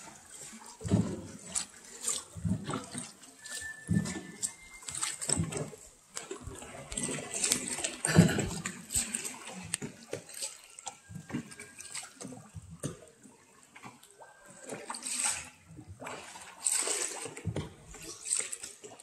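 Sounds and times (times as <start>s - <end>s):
water splashing around a boat: 0.0s - 19.0s.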